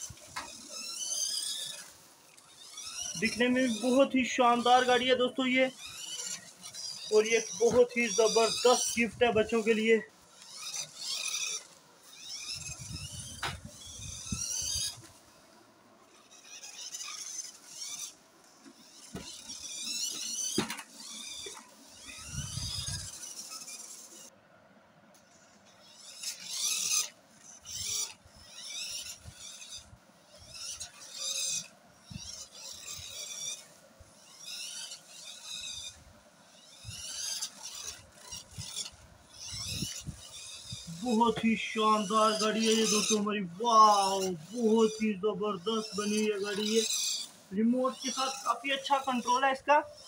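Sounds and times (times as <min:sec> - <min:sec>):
toy truck motor whirring: 0:00.0 - 0:24.4, 0:25.0 - 0:50.0.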